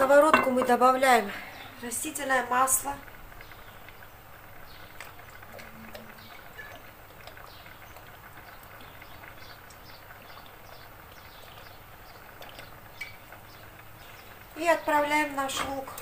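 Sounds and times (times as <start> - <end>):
small birds chirping: 1.4 - 16.0.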